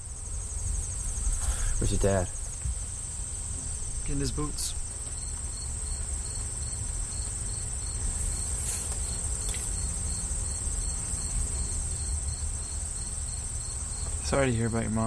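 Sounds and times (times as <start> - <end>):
insect chirping: 0.0 - 15.0
insect high-pitched trill: 0.0 - 15.0
low outdoor rumble: 0.0 - 15.0.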